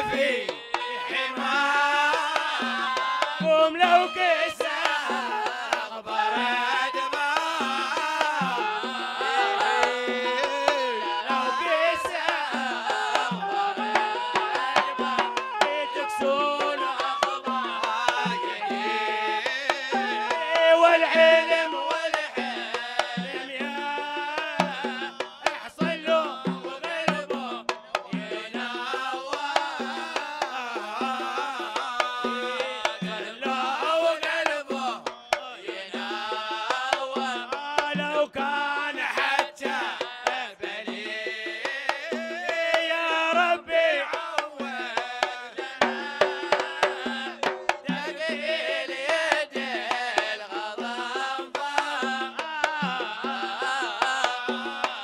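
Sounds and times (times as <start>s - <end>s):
hand drums beating: 0.0s - 55.0s
person singing: 0.0s - 55.0s.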